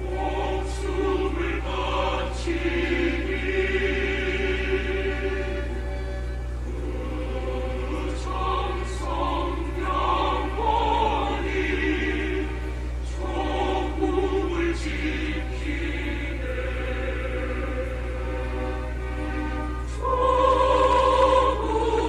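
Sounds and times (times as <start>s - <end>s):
choir singing slow chords: 0.0s - 22.0s
low drone: 0.0s - 22.0s.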